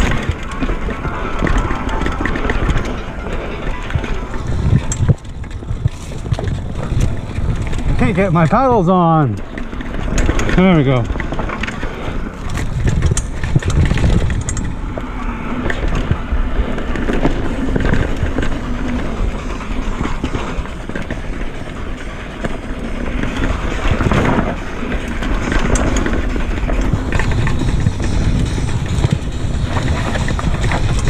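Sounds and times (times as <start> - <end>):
bike tyres on dirt trail: 0.0 - 31.0
chain and frame rattling: 0.0 - 31.0.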